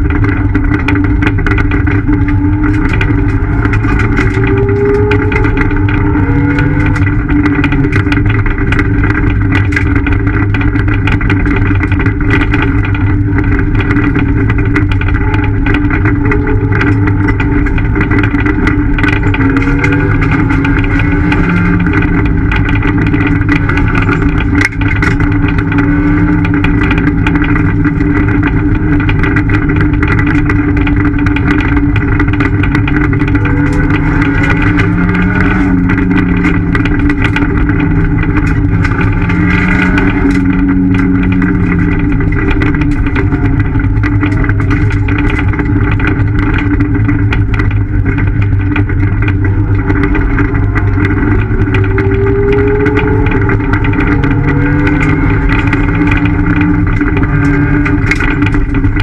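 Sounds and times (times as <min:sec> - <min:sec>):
car engine at high revs: 0:00.0 - 0:59.0
gravel striking car: 0:00.0 - 0:59.0.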